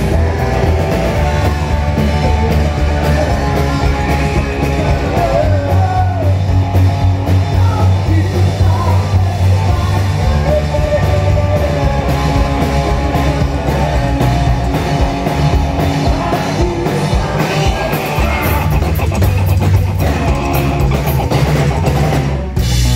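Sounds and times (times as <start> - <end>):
person singing: 0.0 - 6.6, 7.4 - 19.3
live rock band playing: 0.0 - 22.9.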